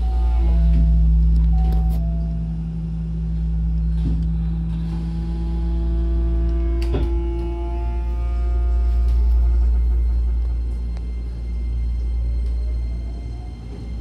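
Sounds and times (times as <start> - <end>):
motor drive tones: 0.0 - 12.9
train car rumble and hum: 0.0 - 14.0.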